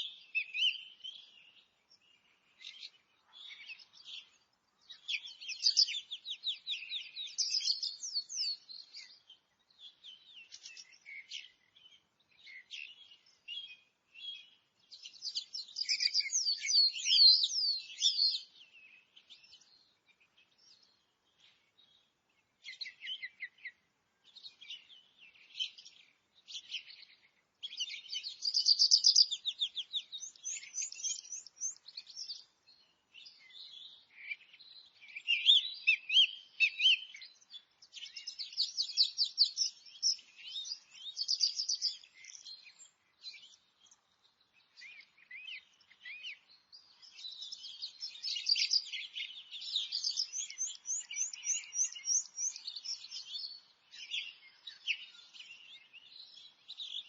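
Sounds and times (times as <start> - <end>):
songbirds trilling and chirping: 0.0 - 57.0.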